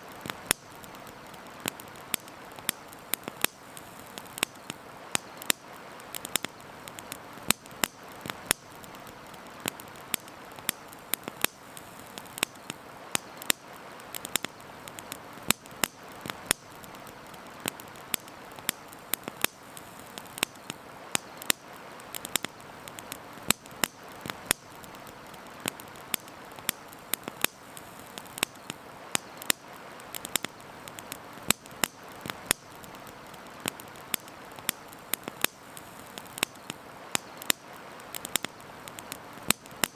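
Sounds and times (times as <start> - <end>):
campfire crackling and popping: 0.0 - 39.9
soft fire hiss: 0.0 - 39.9.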